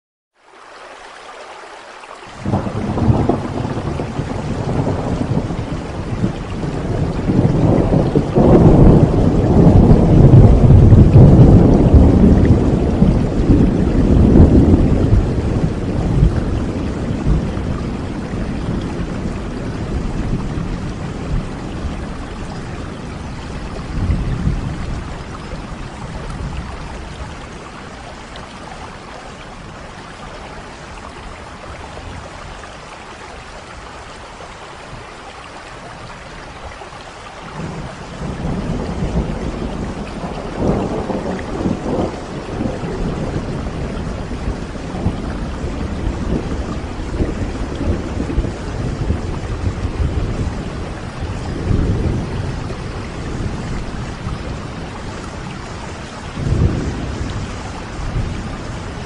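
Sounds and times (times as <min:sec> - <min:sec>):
steady rain hiss: 0:00.4 - 0:59.0
thunder rumbling: 0:02.4 - 0:32.9, 0:37.5 - 0:59.0.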